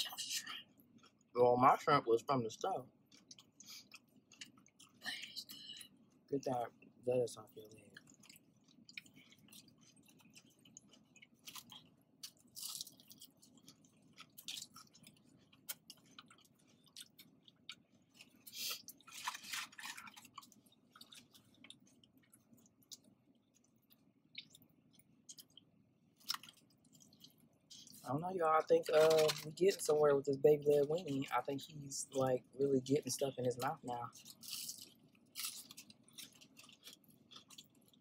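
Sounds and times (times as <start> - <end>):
chewing and crunching food: 0.0 - 38.0.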